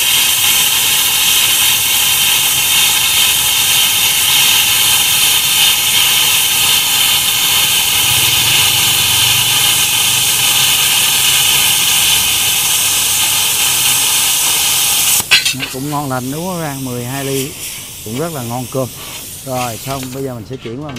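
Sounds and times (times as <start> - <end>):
welding arc hissing: 0.0 - 20.9.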